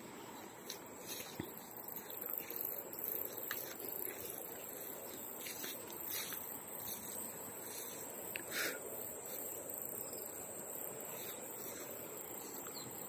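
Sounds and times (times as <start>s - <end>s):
high insect buzz: 0.0s - 13.0s.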